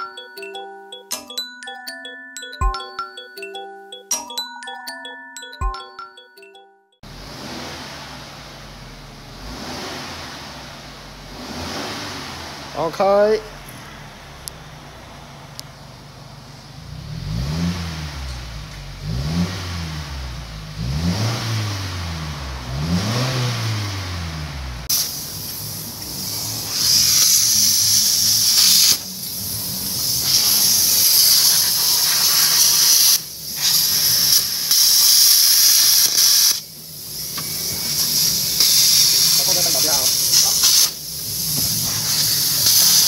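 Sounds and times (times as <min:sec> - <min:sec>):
car engine revving: 0:07.0 - 0:43.0.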